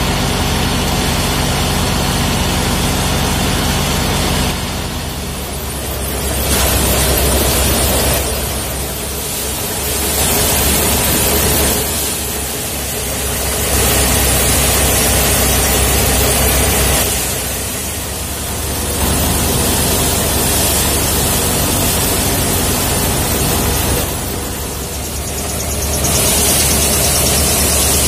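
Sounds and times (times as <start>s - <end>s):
threshing drum rushing whir: 0.0s - 28.0s.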